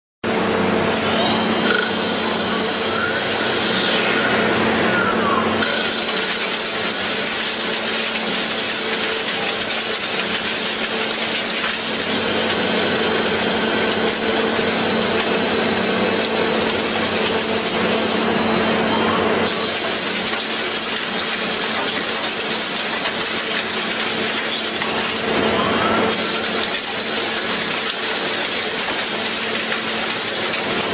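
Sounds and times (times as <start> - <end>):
machine hum: 0.2 - 30.9
sliding whine: 0.8 - 27.6.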